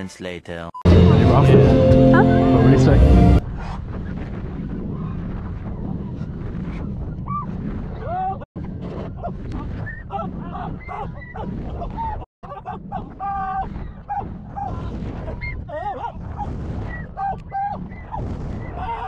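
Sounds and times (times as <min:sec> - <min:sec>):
heavy wind buffeting: 0:03.0 - 0:19.0.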